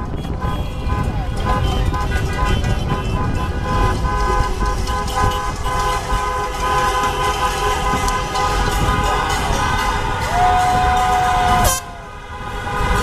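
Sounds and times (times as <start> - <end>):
car horns honking: 0.0 - 13.0
street traffic rumble: 0.0 - 13.0.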